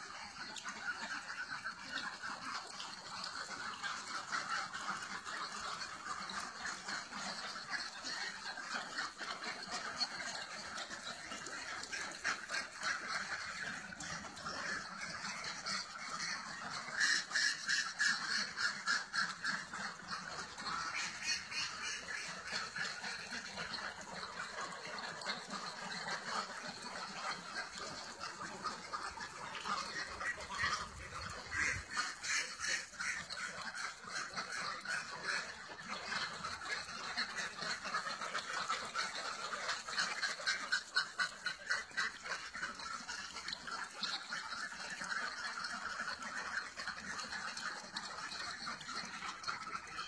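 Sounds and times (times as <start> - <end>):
ducks quacking: 0.0 - 50.0.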